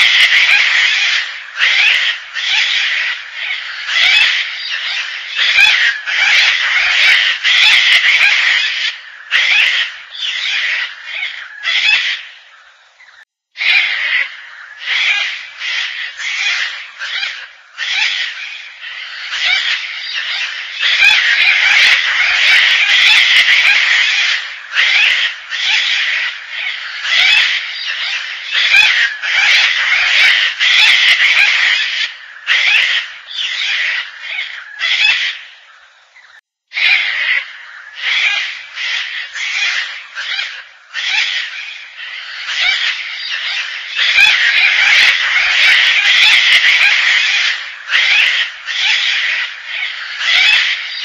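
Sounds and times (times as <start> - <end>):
cockatoo harsh rasping calls: 0.0 - 12.4, 13.1 - 51.0.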